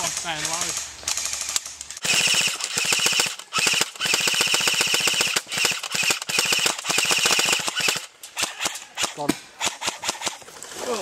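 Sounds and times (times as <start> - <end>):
airsoft rifle firing bursts: 0.5 - 10.4.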